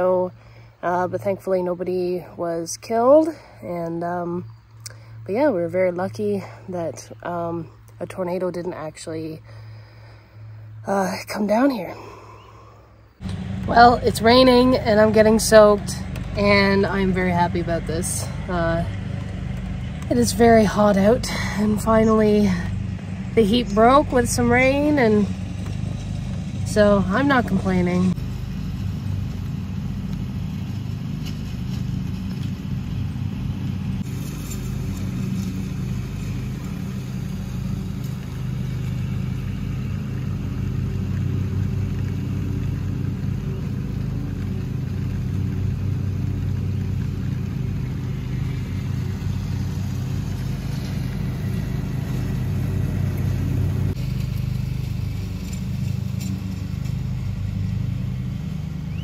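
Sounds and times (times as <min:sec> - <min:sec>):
utility vehicle engine running: 0:00.0 - 0:12.1, 0:13.0 - 0:59.0.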